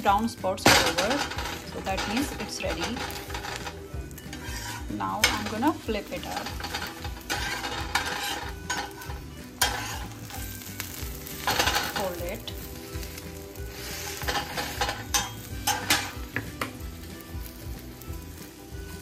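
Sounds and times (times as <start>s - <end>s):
omelette sizzling in a pan: 0.0s - 19.0s
metal turner scraping a pan: 0.6s - 16.4s.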